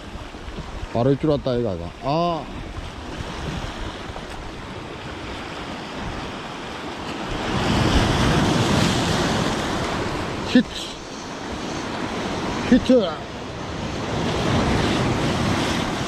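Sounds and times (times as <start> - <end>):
strong wind: 0.0 - 16.0
waves on pebble beach: 0.0 - 16.0.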